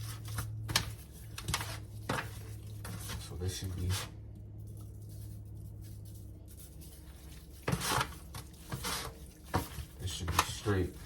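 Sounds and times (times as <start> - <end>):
rustling handling noises: 0.0 - 11.0
steady low hum: 0.0 - 11.0.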